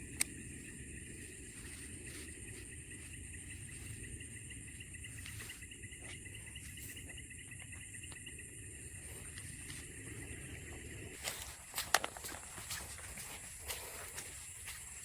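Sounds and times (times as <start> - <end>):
low rumbling background: 0.0 - 13.0
high insect buzz: 0.0 - 15.0
insects trilling: 0.0 - 15.0.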